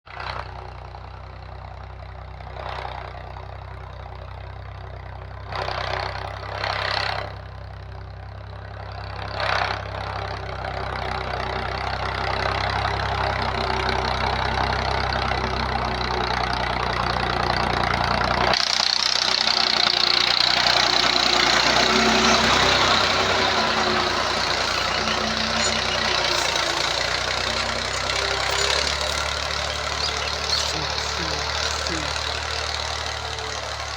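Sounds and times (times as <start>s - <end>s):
tractor engine running: 0.4s - 33.9s.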